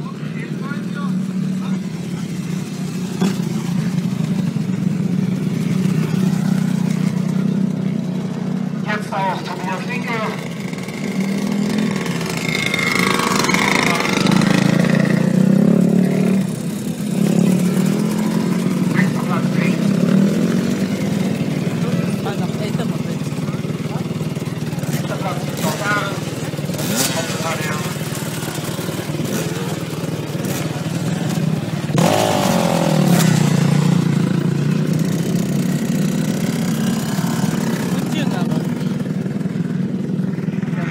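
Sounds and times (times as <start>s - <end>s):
motocross bike engines passing: 0.0s - 40.9s.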